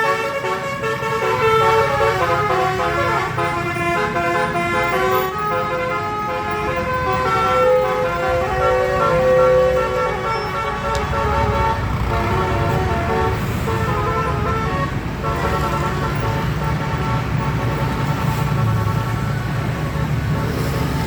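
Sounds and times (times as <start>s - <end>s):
bus engines rumbling: 0.0s - 21.0s
musical bus horns playing melody: 0.0s - 21.0s.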